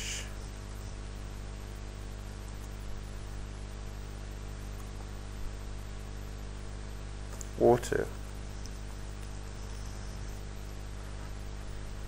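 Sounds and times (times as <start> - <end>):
electrical mains hum and hiss: 0.0 - 12.0.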